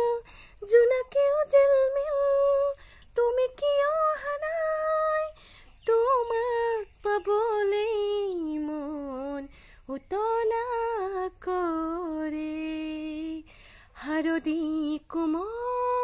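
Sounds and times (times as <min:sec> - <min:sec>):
woman singing wordlessly: 0:00.0 - 0:16.0.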